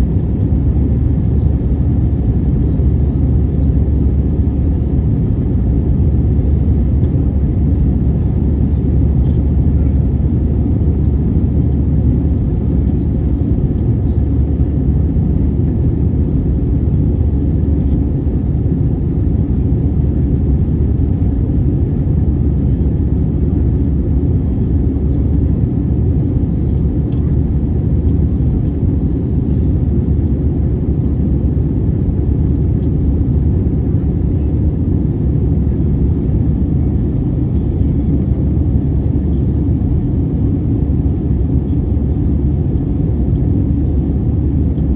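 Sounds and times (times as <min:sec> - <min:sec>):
airplane cabin rumble: 0:00.0 - 0:44.9.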